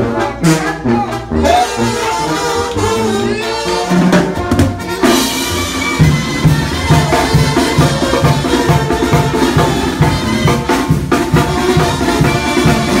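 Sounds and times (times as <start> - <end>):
drum kit and cymbals: 0.0 - 13.0
trombones and trumpets: 0.0 - 13.0
tuba bass line: 0.0 - 13.0.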